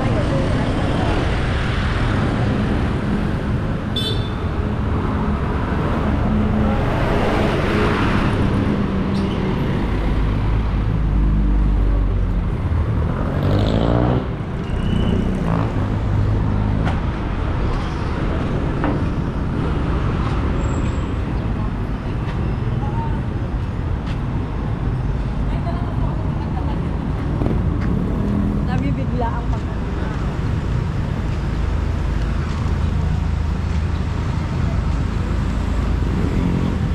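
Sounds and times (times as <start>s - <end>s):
passing vehicle engines: 0.0s - 36.9s.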